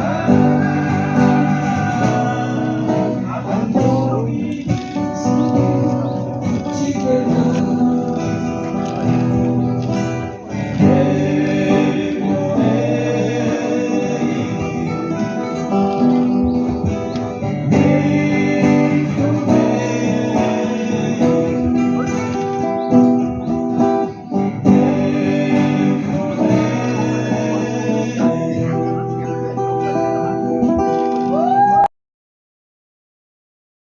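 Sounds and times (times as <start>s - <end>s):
guitar playing: 0.0s - 31.6s
person singing: 0.0s - 31.9s.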